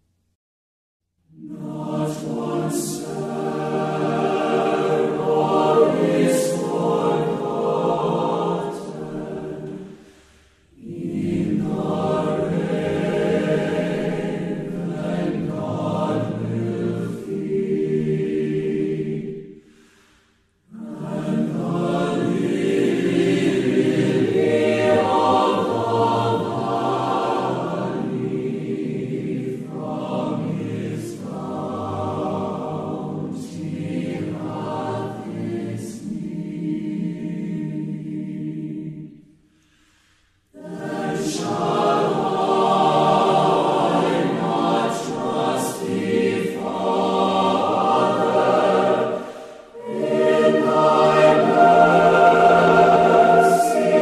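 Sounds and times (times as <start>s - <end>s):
mixed choir singing: 1.3s - 20.1s, 20.7s - 39.3s, 40.5s - 54.0s.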